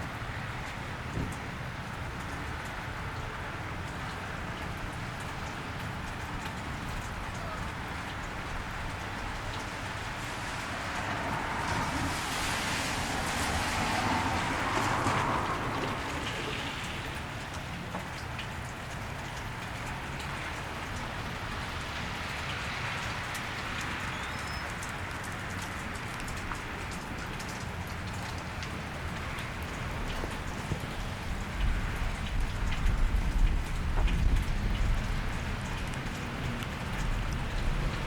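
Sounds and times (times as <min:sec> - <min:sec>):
rain on a wet street: 0:00.0 - 0:38.0.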